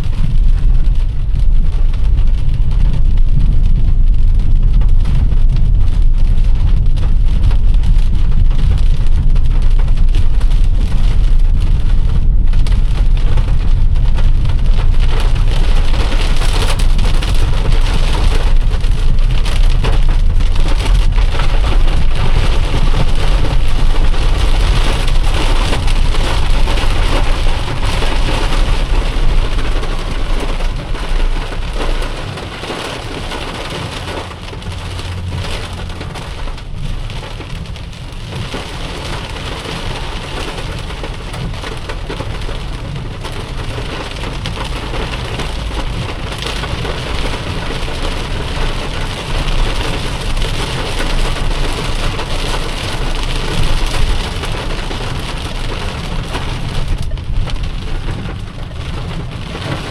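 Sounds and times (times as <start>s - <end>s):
deep rumble: 0.0s - 59.9s
heavy rain on a car: 0.0s - 59.9s.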